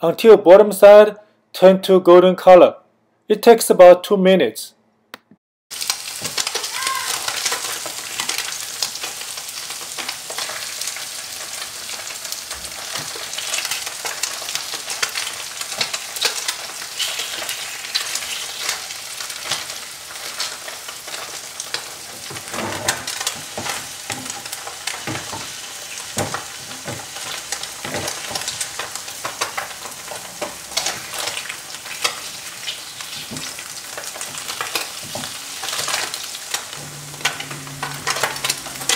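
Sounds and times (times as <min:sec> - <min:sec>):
tofu sizzling in hot oil: 0:05.7 - 0:38.9.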